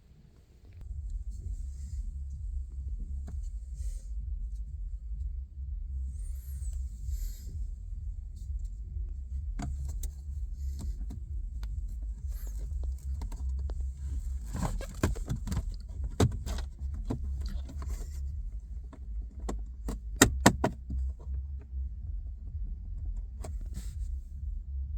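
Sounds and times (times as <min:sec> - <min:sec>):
car low rumble: 0:00.0 - 0:24.9.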